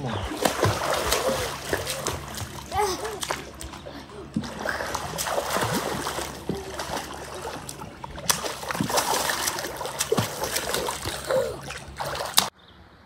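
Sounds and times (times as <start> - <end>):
sharp swimming splashes: 0.0 - 12.5
pool water sloshing: 0.0 - 12.6.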